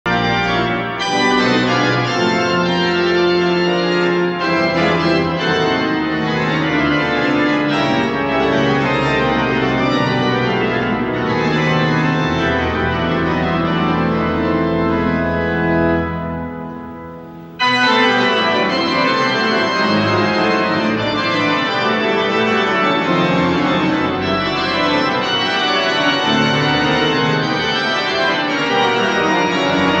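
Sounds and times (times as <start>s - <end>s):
organ playing dense chords: 0.1s - 30.0s.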